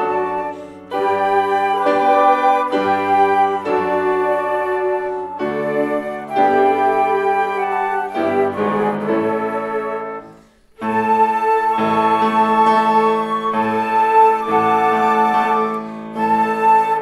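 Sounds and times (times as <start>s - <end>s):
flute ensemble playing chords: 0.0s - 17.0s.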